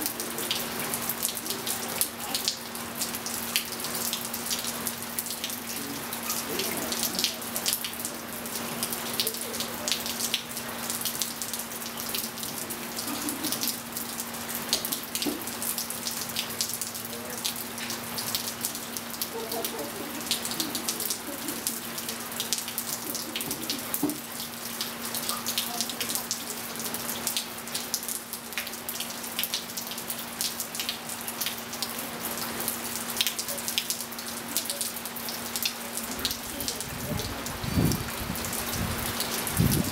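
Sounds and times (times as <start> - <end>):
rain on water and wet tiles: 0.0 - 39.9.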